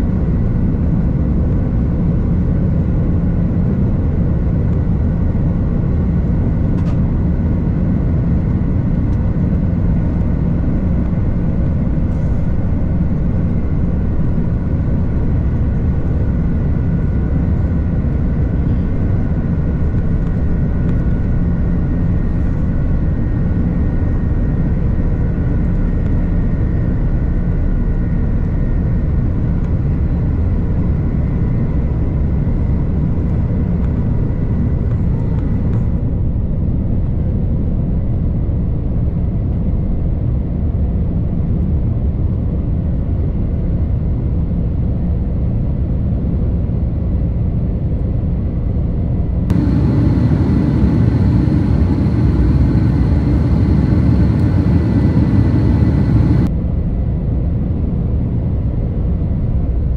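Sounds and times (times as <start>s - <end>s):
jet airliner rumble: 0.0s - 59.9s.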